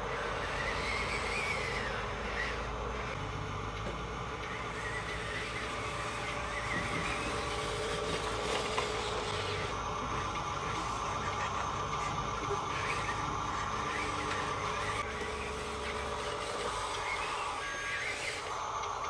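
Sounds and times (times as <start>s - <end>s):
toy excavator motors humming and whining: 0.0s - 19.0s.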